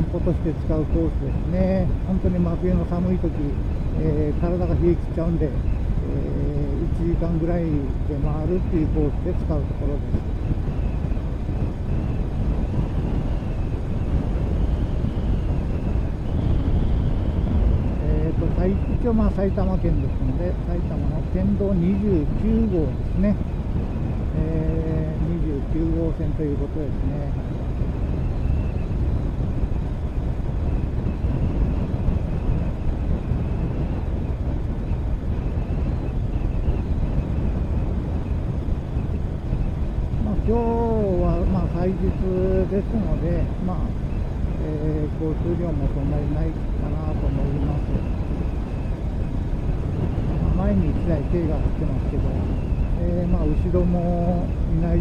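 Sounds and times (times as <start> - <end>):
faint high whine: 0.0 - 55.0
motorcycle engine and road rumble: 0.0 - 55.0
wind buffeting microphone: 0.0 - 55.0.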